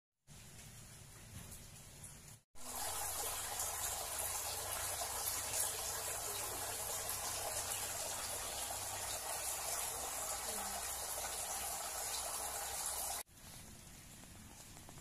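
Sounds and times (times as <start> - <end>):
water trickling and splashing: 0.3 - 13.3.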